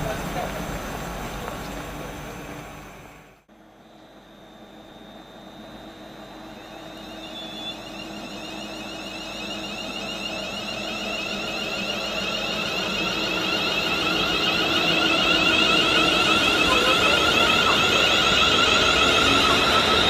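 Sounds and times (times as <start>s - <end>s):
electric train passing at speed: 0.0s - 20.0s
high steady whine: 0.0s - 20.0s.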